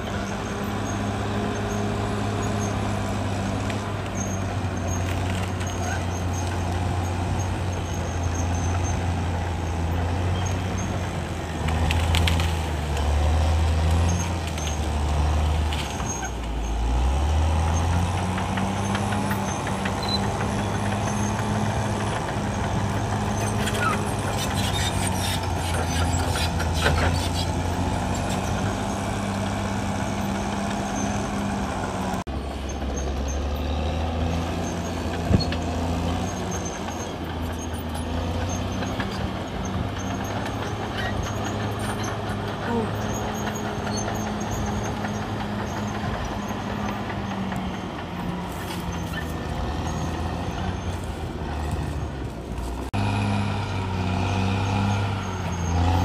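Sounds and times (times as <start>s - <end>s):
crawler tracks squealing and clanking: 0.0s - 52.9s, 53.6s - 56.0s
bulldozer diesel engine under load: 0.0s - 56.0s.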